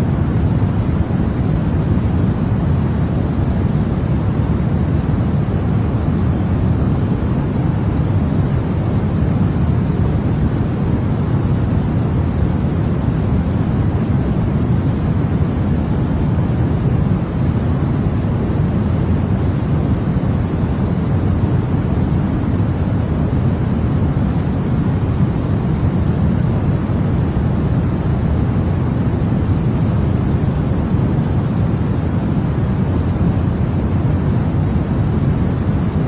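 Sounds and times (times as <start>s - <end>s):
white noise rushing hiss: 0.0s - 36.0s.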